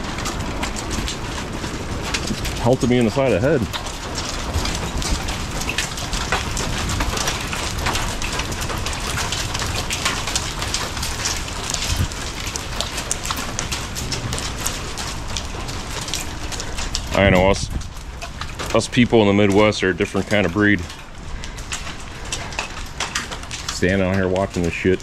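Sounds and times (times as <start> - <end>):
hailstones pelting roof: 0.0 - 25.0
rain and hail hissing: 0.0 - 25.0.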